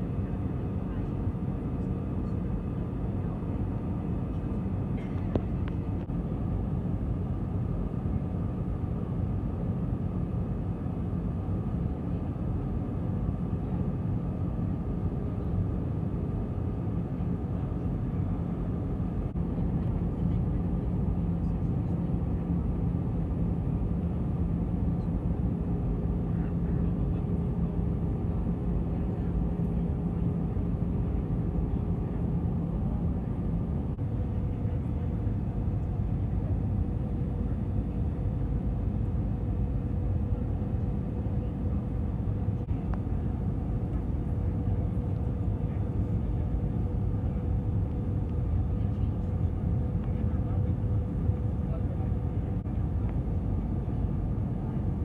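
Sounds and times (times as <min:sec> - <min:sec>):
airplane cabin engine roar: 0:00.0 - 0:55.0.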